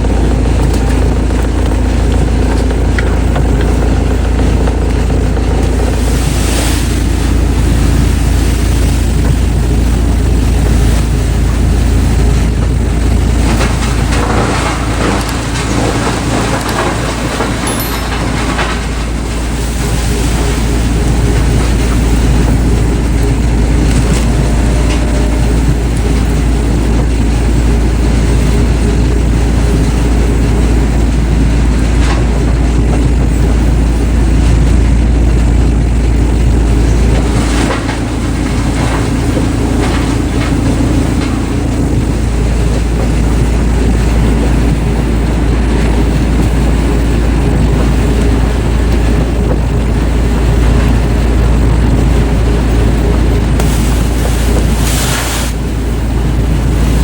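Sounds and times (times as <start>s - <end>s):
large machine rumbling: 0.0s - 57.0s.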